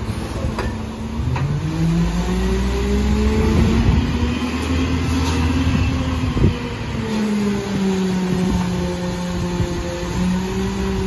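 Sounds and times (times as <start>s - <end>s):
garbage truck engine revving: 0.0s - 11.0s.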